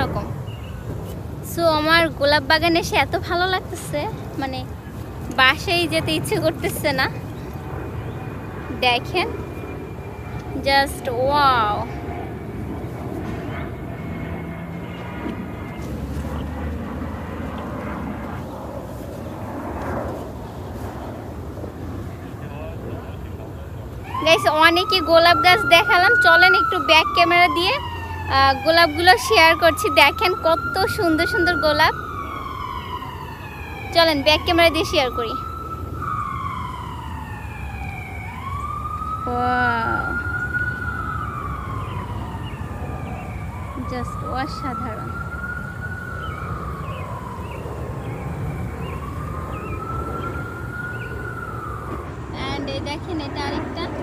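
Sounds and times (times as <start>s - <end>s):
airplane engine rumble: 0.0s - 54.0s
emergency siren wailing: 0.0s - 54.0s.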